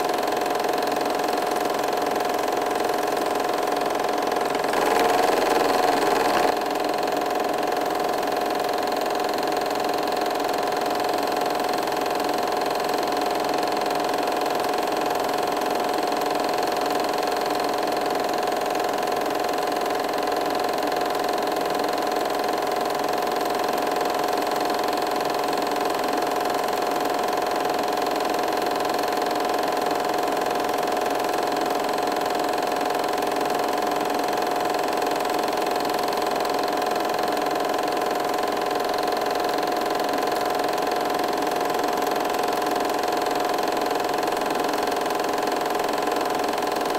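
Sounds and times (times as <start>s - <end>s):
film projector whirring: 0.0s - 46.9s.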